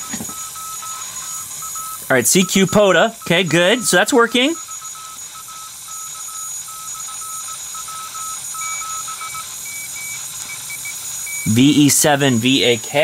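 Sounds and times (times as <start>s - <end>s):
morse code tones: 0.0s - 13.0s
radio band hiss: 0.0s - 13.0s.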